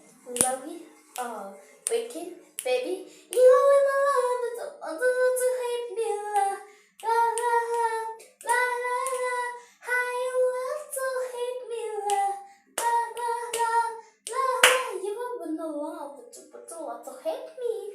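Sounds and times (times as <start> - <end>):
child singing: 0.2 - 17.9.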